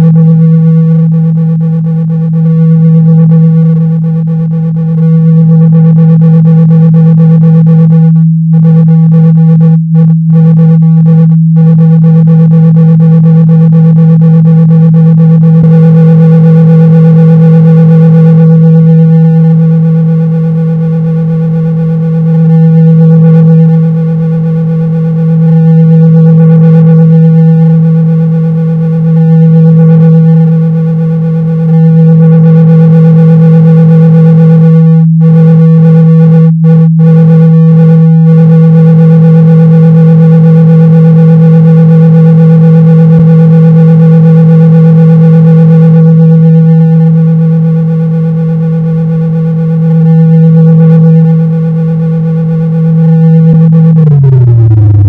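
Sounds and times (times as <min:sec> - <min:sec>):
low electronic tone: 0:00.0 - 0:55.0.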